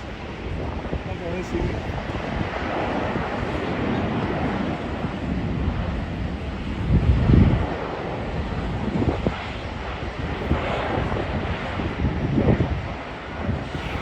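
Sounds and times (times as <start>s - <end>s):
jet engine roar: 0.0s - 14.0s
wind buffeting microphone: 0.0s - 14.0s.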